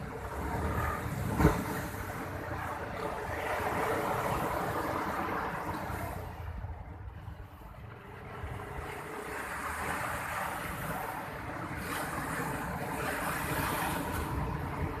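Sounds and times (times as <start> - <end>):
sea surf breaking on beach: 0.0 - 6.5, 8.0 - 15.0
wind rumble on microphone: 0.0 - 15.0.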